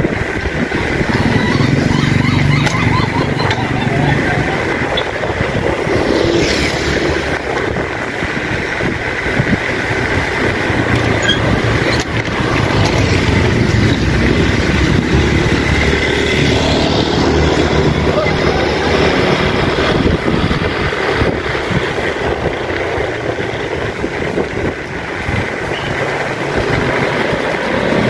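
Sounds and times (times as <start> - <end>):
bicycle tyre and road noise: 0.0 - 28.0
wind on microphone: 0.0 - 28.0.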